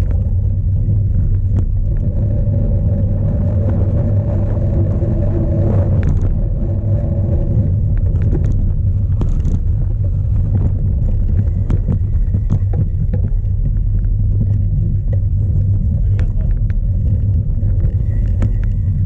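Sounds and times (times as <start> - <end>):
bike rattling over rough ground: 0.0 - 19.0
wind rumbling on microphone: 0.0 - 19.0.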